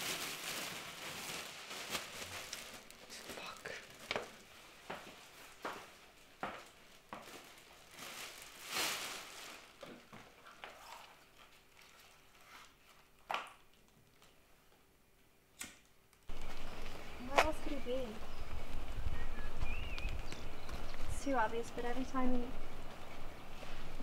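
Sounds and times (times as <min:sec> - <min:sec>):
plastic bag rustling: 0:00.0 - 0:14.4, 0:16.3 - 0:24.0.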